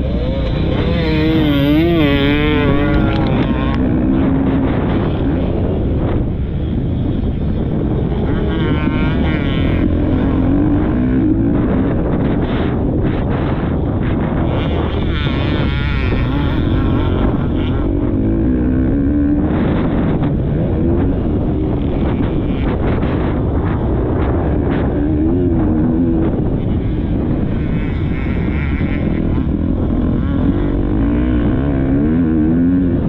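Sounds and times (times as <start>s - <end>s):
motocross bike engine revving: 0.0s - 33.0s
wind noise on microphone: 0.0s - 33.0s.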